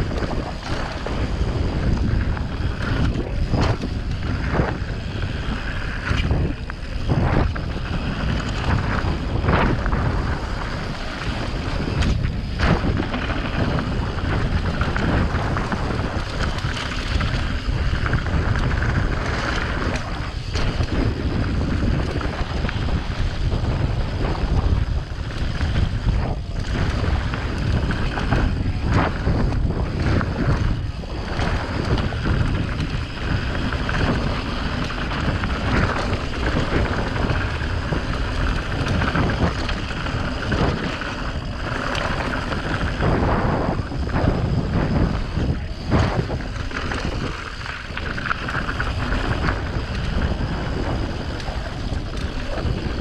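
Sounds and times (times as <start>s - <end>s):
bike clattering over bumps: 0.0s - 53.0s
tyres rumbling over dirt: 0.0s - 53.0s
wind buffeting microphone: 0.0s - 53.0s.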